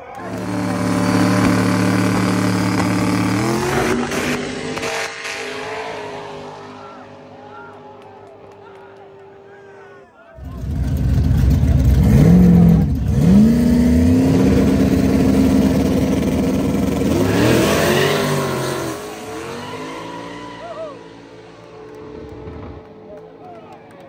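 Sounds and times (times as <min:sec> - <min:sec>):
race car accelerating: 0:00.0 - 0:09.7, 0:10.4 - 0:24.0.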